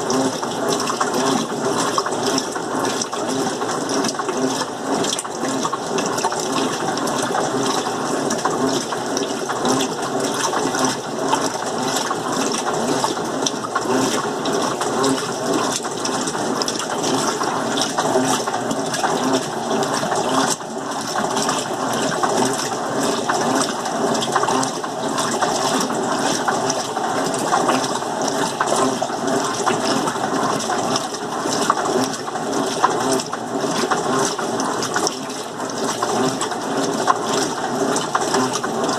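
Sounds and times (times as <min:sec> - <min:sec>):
water pouring into washing machine: 0:00.0 - 0:38.9.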